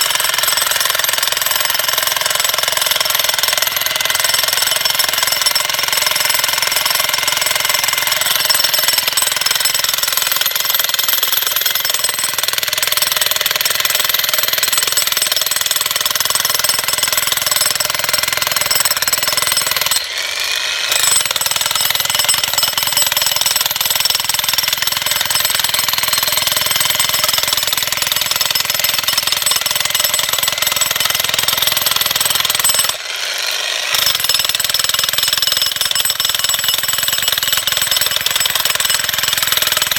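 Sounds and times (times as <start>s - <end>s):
jackhammer breaking stone: 0.0s - 39.9s.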